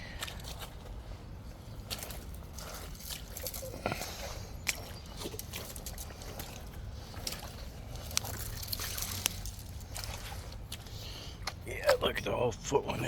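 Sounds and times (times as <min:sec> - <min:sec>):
boots squelching through mud: 0:00.0 - 0:12.1.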